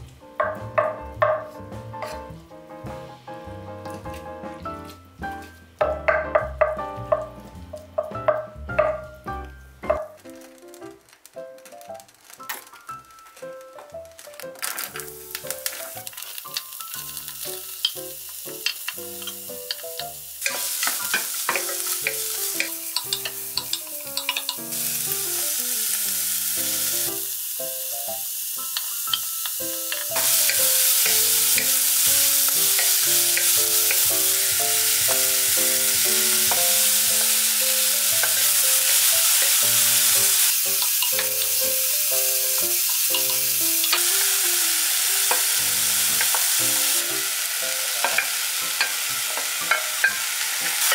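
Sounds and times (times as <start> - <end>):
light background music: 0.0 - 50.9
vegetables sizzling in hot oil: 5.8 - 50.9.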